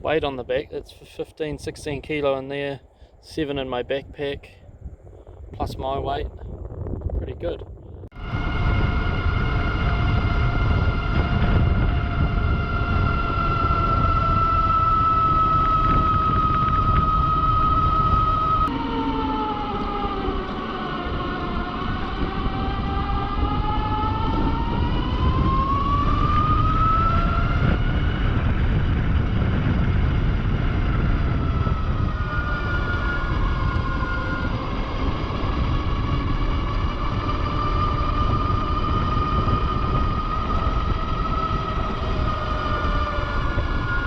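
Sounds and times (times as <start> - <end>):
low wind rumble: 0.0 - 44.0
electric motor whining: 8.2 - 44.0.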